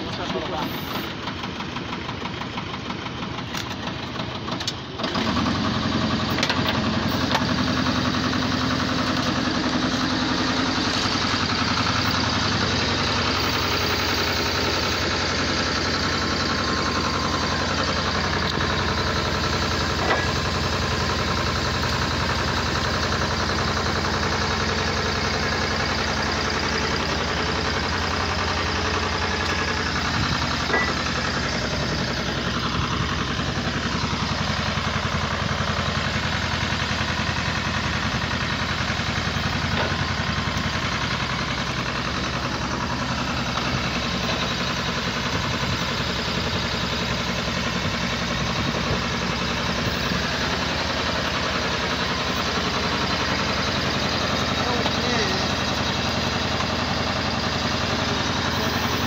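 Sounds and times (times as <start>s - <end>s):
drilling rig engine running: 0.0s - 59.0s.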